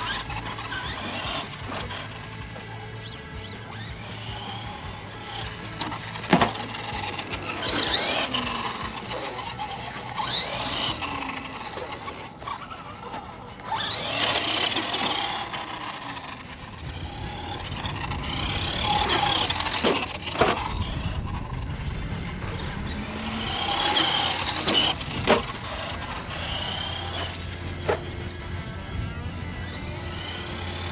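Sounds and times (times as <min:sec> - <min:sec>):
electric motor whining: 0:00.0 - 0:30.9
tyre noise: 0:00.0 - 0:30.9.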